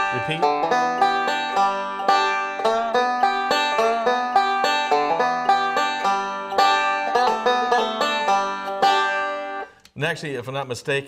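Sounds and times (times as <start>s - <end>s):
banjo picking melody: 0.0s - 9.8s.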